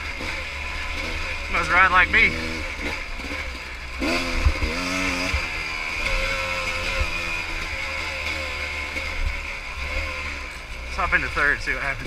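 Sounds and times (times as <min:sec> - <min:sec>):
pit bike engine revving: 0:00.0 - 0:12.0.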